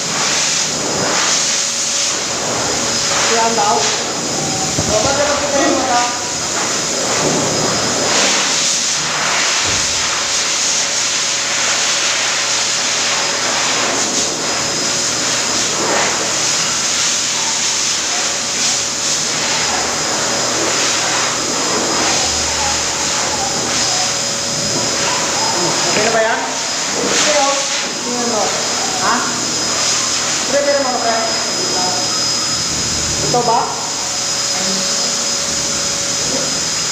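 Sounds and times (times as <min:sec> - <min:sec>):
pet dryer blowing: 0:00.0 - 0:36.9.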